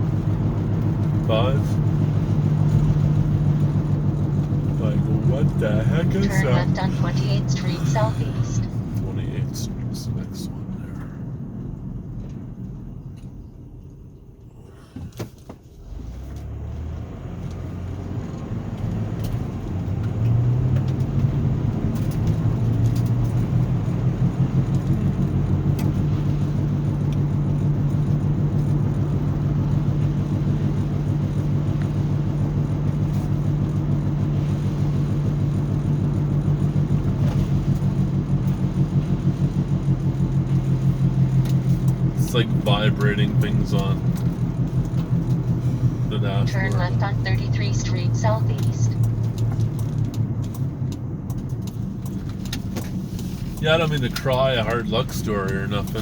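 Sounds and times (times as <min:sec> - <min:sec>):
low drone inside van cabin: 0:00.0 - 0:16.2, 0:17.4 - 0:56.0.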